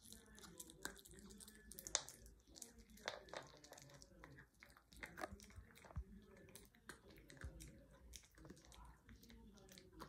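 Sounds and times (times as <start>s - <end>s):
dog chewing: 0.0s - 10.0s.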